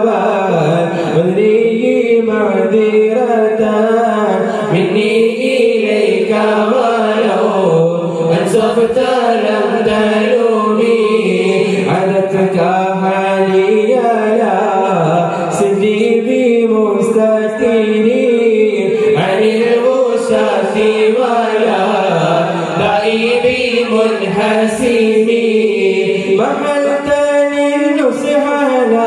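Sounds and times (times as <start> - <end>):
men chanting into microphones: 0.0 - 29.0.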